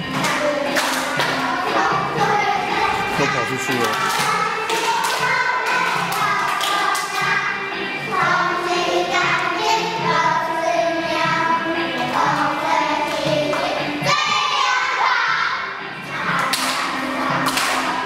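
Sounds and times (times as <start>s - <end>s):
children singing: 0.0s - 18.0s.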